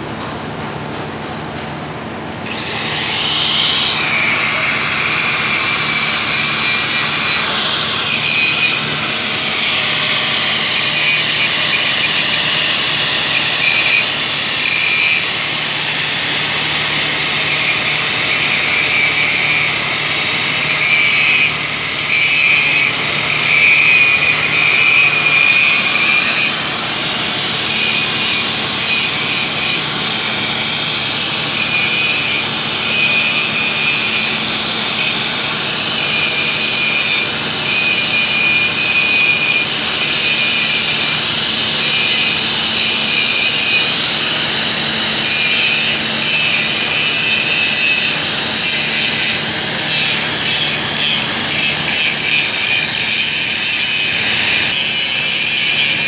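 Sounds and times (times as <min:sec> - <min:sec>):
industrial machinery hiss and whine: 0:02.4 - 0:56.0.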